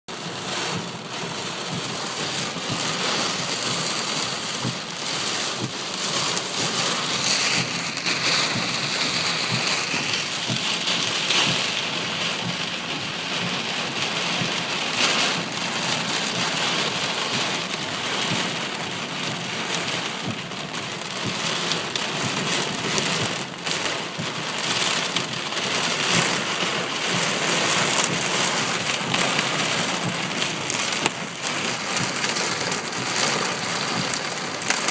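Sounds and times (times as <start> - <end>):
heavy rain on car roof: 0.1 - 34.9.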